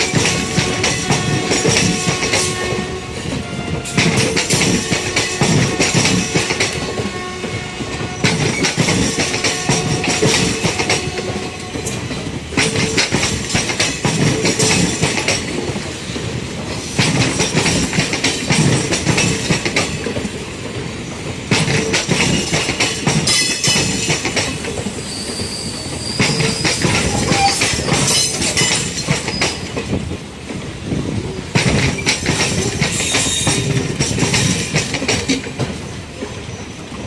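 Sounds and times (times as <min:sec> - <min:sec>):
train rolling rumble: 0:00.0 - 0:37.0
train wheels clattering over rail joints: 0:00.0 - 0:37.0.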